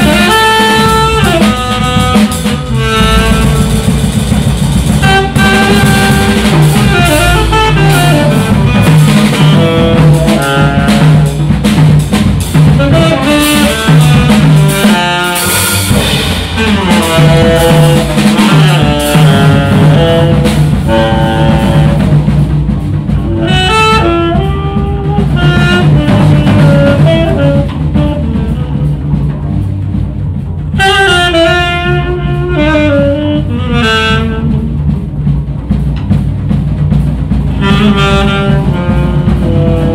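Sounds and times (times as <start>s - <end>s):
saxophone solo: 0.0s - 11.8s, 12.6s - 22.2s, 23.2s - 29.8s, 30.7s - 34.8s, 37.5s - 39.9s
drum kit: 0.0s - 39.9s
walking double bass: 0.0s - 39.9s.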